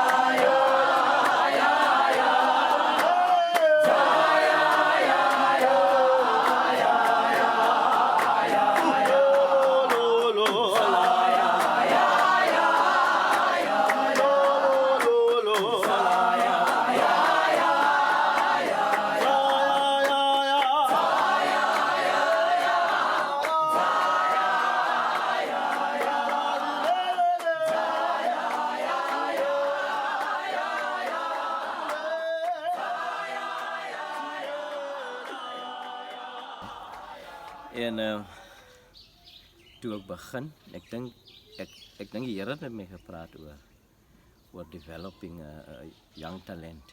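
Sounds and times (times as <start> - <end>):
church choir singing: 0.0 - 38.0.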